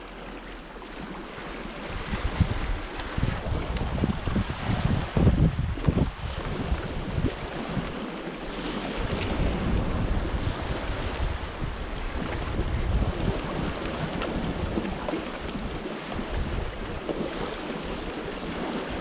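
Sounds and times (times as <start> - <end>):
sea waves on rocky shore: 0.0 - 19.0
wind buffeting microphone: 0.9 - 19.0.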